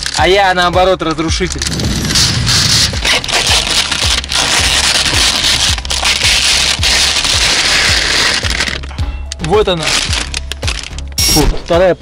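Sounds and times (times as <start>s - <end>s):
plastic film crinkling and crackling: 0.0s - 11.2s
background music with steady beat: 0.0s - 12.0s.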